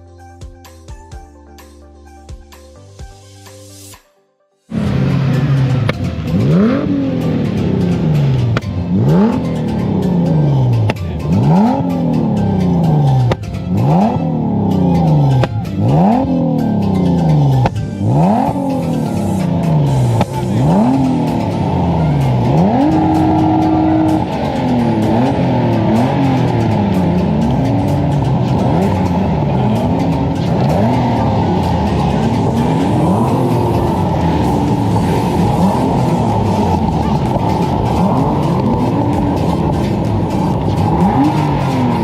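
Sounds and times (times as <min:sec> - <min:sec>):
car engine revving: 0:04.7 - 0:42.0.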